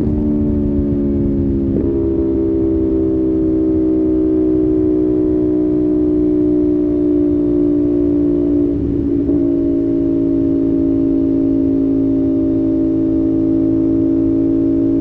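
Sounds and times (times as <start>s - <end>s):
motorcycle engine cruising: 0.0s - 15.0s
wind and road rush: 0.0s - 15.0s.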